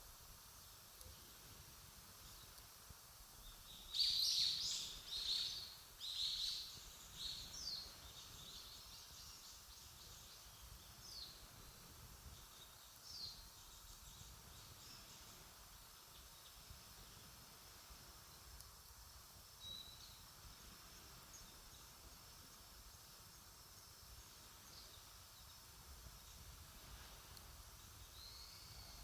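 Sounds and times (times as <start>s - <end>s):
faint background noise: 0.0s - 29.0s.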